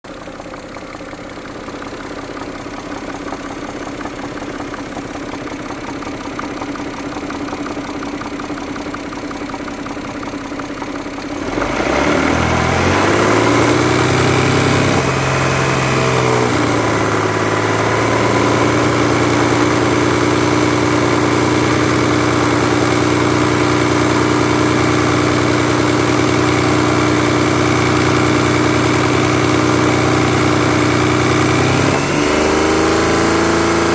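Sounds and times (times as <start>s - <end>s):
car engine running with knock: 0.1s - 33.9s.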